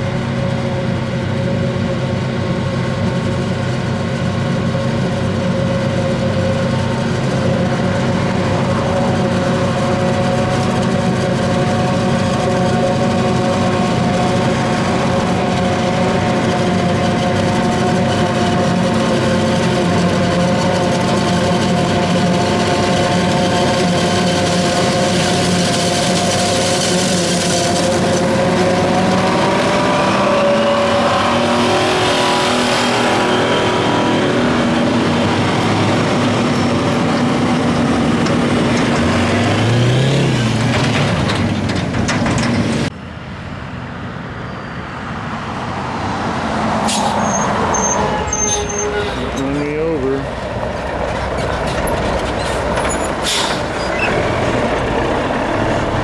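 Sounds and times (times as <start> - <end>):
harvester engine and cutter chopping: 0.0 - 43.0, 49.1 - 56.0
truck engine approaching: 0.0 - 56.0.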